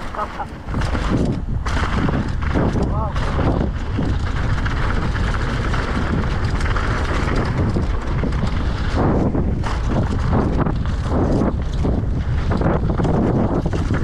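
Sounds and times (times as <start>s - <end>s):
noise of moving at speed: 0.0s - 14.0s
wind buffeting microphone: 0.0s - 14.0s.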